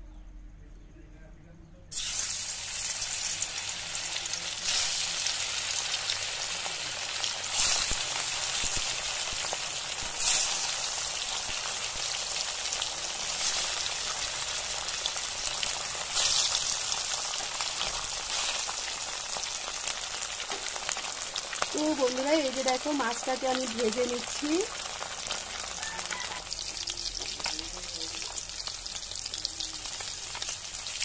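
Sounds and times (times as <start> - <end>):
fish frying in hot oil: 1.9 - 31.0.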